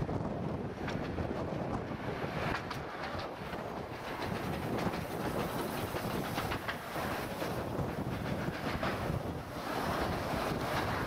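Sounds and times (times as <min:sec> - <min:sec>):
miniature steam train rumbling: 0:00.0 - 0:11.0
wheels clicking on rails: 0:00.0 - 0:11.0.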